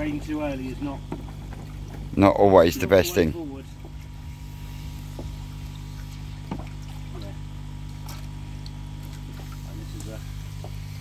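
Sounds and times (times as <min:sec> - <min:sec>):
steady low hum: 0:00.0 - 0:11.0
water sloshing: 0:00.0 - 0:11.0.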